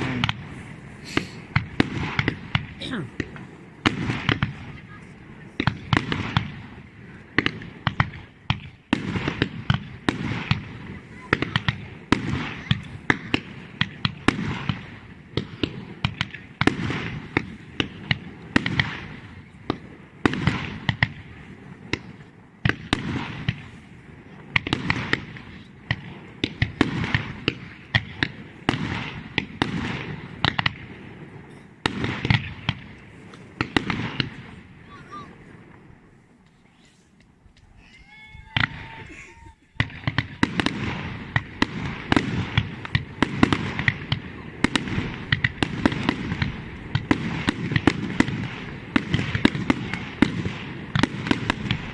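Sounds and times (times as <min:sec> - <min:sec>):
fireworks bursts and bangs: 0:00.0 - 0:36.1, 0:38.2 - 0:51.9.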